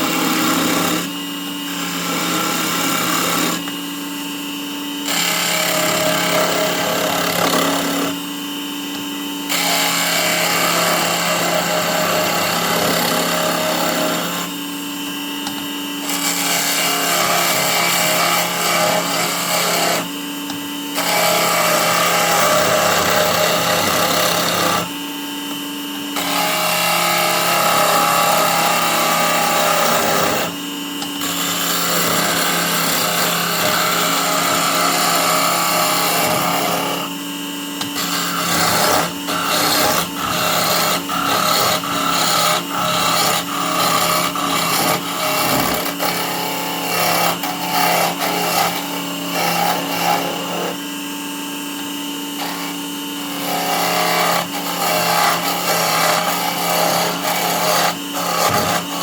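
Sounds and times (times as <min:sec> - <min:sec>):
tool scraping spinning wood: 0:00.0 - 0:51.0, 0:51.8 - 0:59.0
lathe motor hum: 0:00.0 - 0:59.0.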